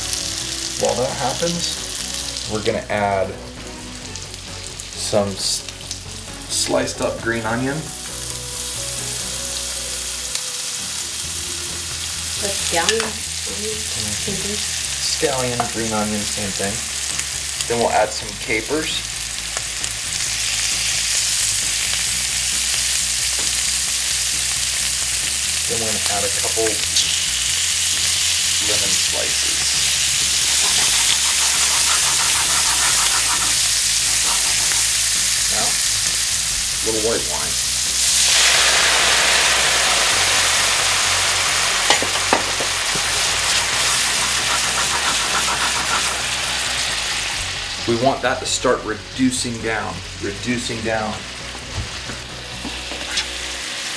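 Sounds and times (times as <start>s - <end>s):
fish frying in butter: 0.0s - 48.5s.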